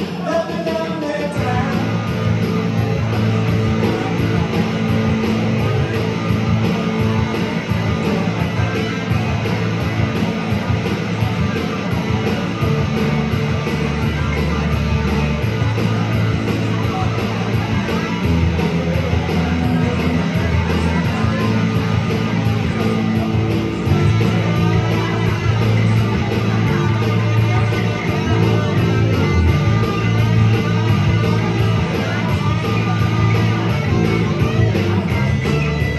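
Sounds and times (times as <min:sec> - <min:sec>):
electric guitar: 0:00.0 - 0:35.9
rock band playing live: 0:00.0 - 0:35.9.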